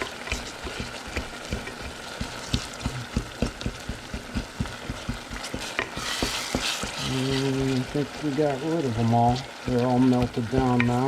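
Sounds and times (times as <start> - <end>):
faint sizzle: 0.0 - 11.0
utensil knocking in a pot: 0.0 - 11.0.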